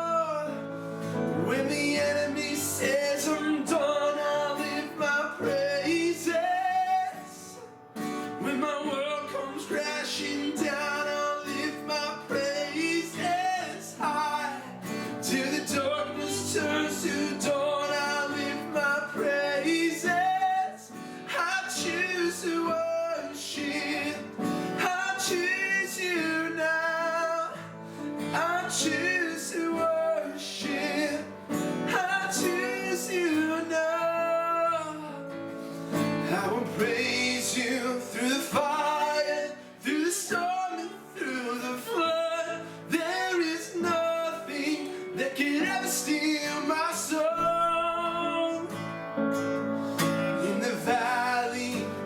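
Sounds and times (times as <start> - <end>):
person singing: 0.0 - 35.3, 36.0 - 52.0
acoustic guitar strumming: 0.0 - 52.0.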